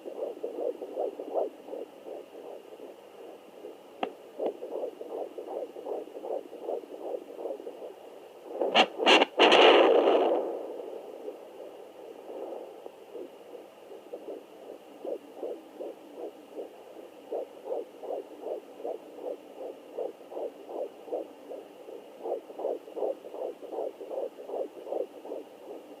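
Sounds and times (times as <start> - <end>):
fetal heartbeat whooshing pulses: 0.0 - 26.0.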